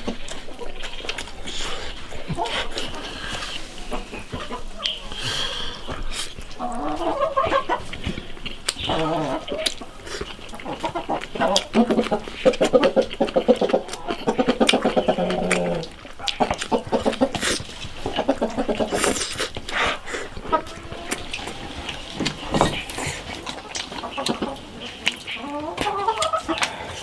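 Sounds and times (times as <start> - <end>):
chickens clucking: 0.0 - 27.0
wet chewing and smacking: 0.0 - 27.0.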